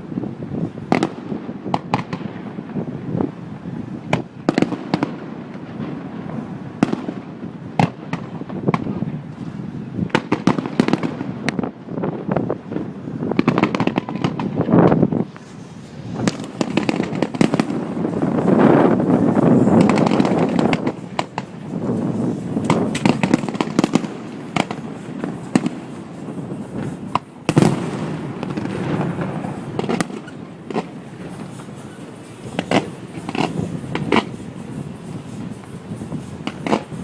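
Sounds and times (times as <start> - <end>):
fireworks booming and crackling: 0.0 - 37.0.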